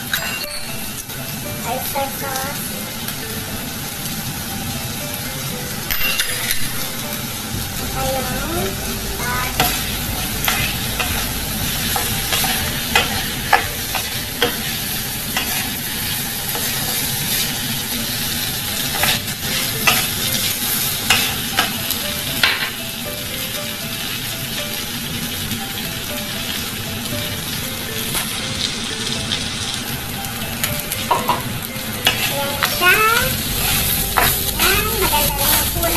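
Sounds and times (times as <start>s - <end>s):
rice sizzling in a wok: 0.0s - 35.9s.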